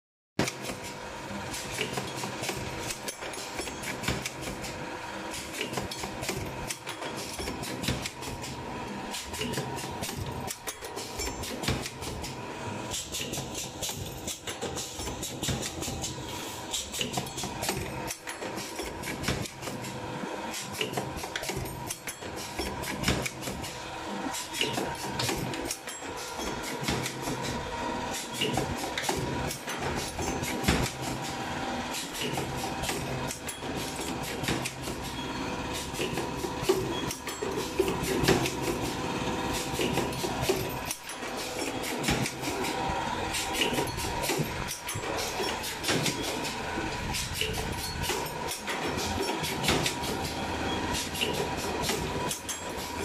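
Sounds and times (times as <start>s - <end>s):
steady mechanical hum: 0.4s - 53.0s.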